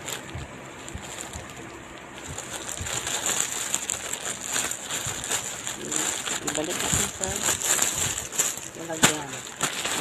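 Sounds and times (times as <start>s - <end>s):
rustling and handling noise: 0.0s - 10.0s.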